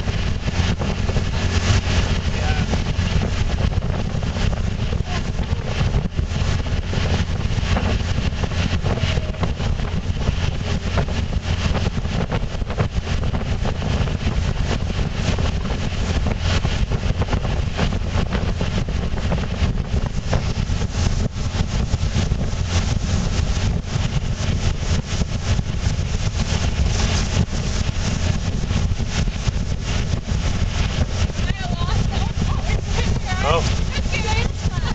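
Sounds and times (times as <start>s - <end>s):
churning wake rushing: 0.0s - 34.9s
outboard motor running: 0.0s - 34.9s
wind buffeting microphone: 0.0s - 34.9s.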